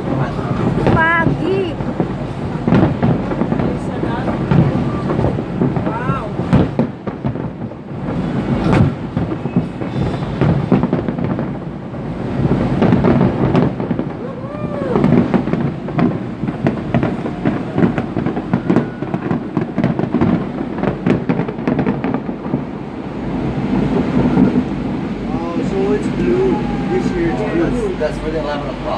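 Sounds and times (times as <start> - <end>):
fireworks bangs and crackles: 0.0 - 28.9
low rumbling boom: 0.0 - 28.9.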